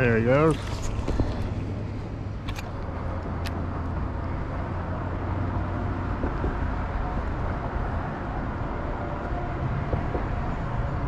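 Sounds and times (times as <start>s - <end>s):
low outdoor rumble by river: 0.0s - 11.0s.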